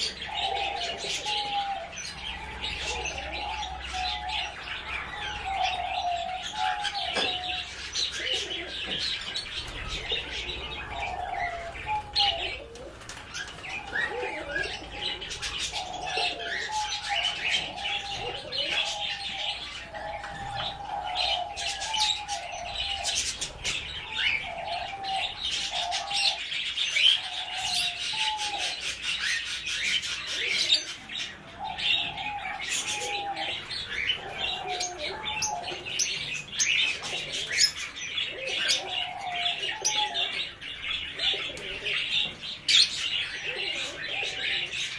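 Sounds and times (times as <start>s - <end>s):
pet birds chirping: 0.0s - 44.9s.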